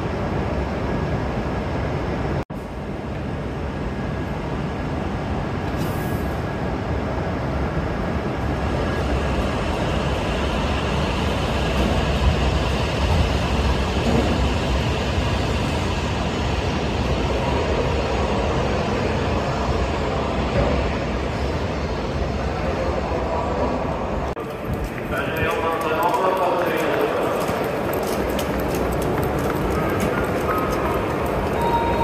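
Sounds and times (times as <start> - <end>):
train running: 0.0 - 32.0.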